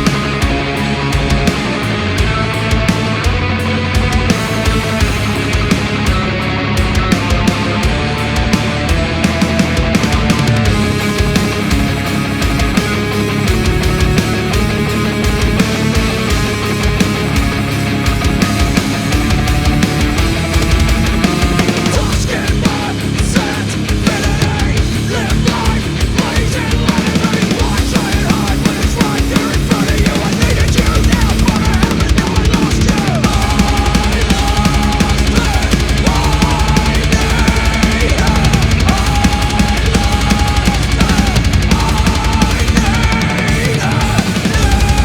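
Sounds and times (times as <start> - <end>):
distorted guitar riffs: 0.0 - 45.0
fast drumming: 0.0 - 45.0
steady low drone: 0.0 - 45.0.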